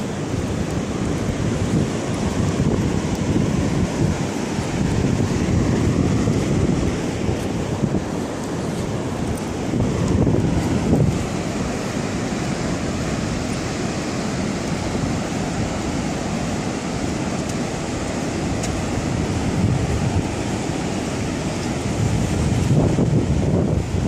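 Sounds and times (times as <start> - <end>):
ocean surf breaking: 0.0 - 24.0
wind on microphone: 0.0 - 24.0.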